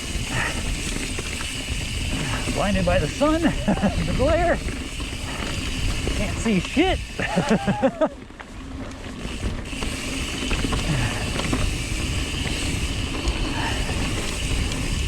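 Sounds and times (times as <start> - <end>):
bike rattle: 0.0 - 15.0
bike tyre noise on dirt: 0.0 - 15.0.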